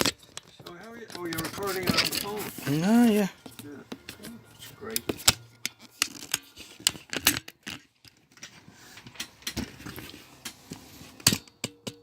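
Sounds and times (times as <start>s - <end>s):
objects being handled clicking: 0.0s - 12.0s.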